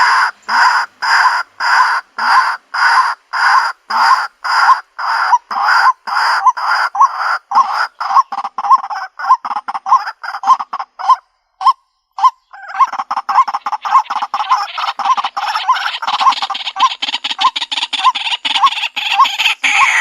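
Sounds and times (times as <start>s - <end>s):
bird harsh repeated call: 0.0s - 20.0s.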